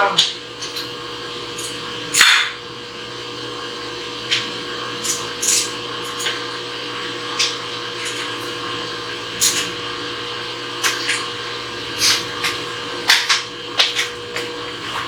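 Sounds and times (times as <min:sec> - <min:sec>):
mill electrical hum: 0:00.0 - 0:15.0.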